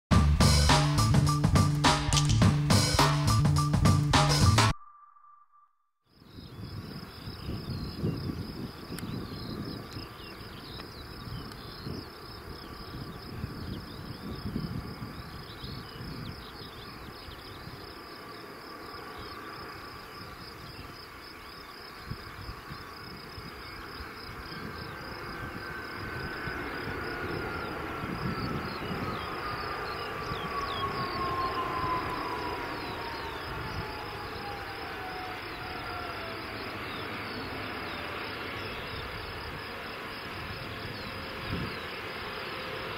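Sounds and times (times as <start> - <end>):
crickets chirping: 4.8 - 42.9
distant jet engines landing: 6.6 - 42.9.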